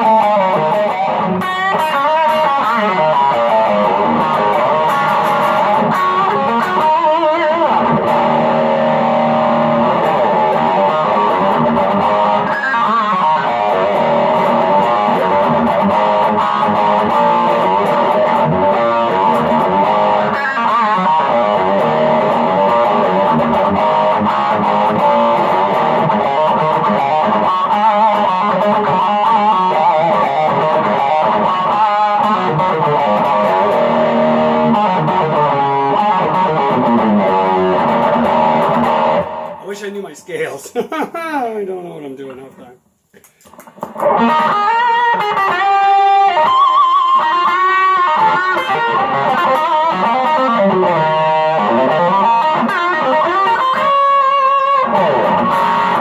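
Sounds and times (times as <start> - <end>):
overdriven electric guitar lead: 0.0 - 39.7, 43.3 - 56.0.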